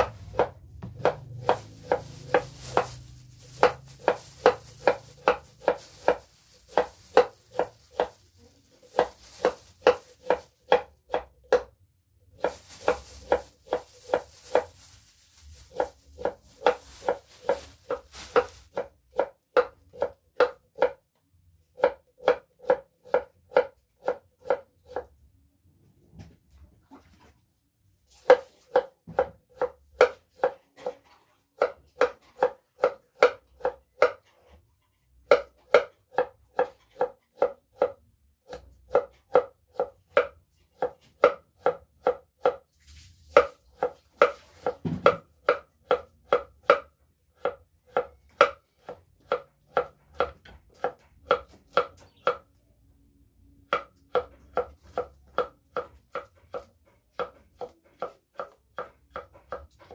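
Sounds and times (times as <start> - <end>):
knife chopping on wooden board: 0.0 - 8.2, 8.8 - 14.7, 15.7 - 21.0, 21.7 - 25.1, 28.2 - 34.5, 35.2 - 42.6, 43.3 - 52.4, 53.7 - 59.9.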